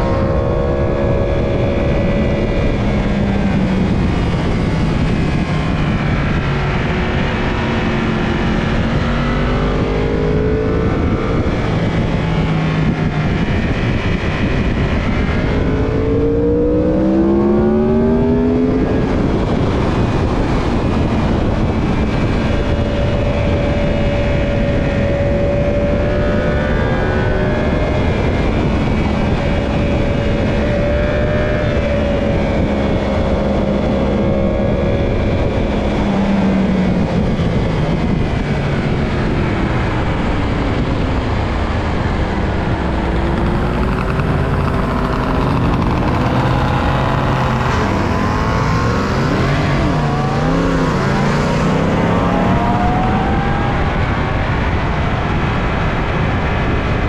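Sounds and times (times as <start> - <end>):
motorcycle engine: 0.0 - 57.0
wind rushing on microphone: 0.0 - 57.0.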